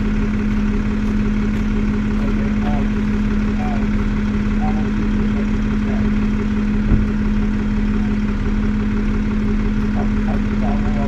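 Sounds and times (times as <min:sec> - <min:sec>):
tow truck engine idling: 0:00.0 - 0:11.0.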